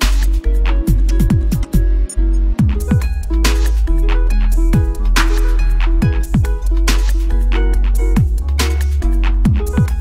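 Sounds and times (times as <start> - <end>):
electronic remix music: 0.0 - 10.0.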